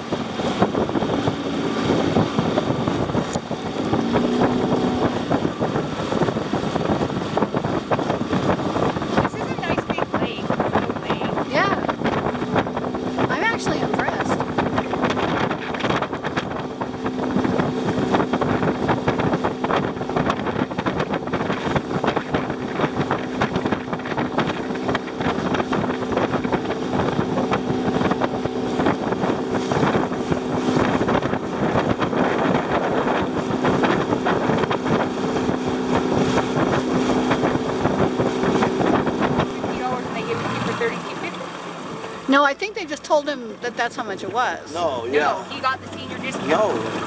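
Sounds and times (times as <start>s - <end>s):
boat motor running: 0.0s - 47.0s
water splashing along hull: 0.0s - 47.0s
wind buffeting microphone: 0.0s - 47.0s.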